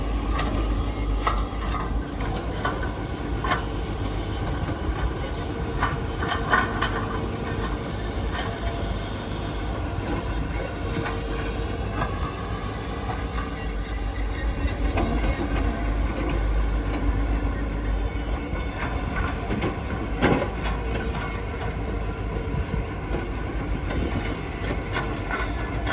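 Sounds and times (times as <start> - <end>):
heavy vehicle engine rumbling: 0.0 - 25.9
clanks and clicks: 0.3 - 13.6, 14.3 - 17.2, 18.3 - 25.9.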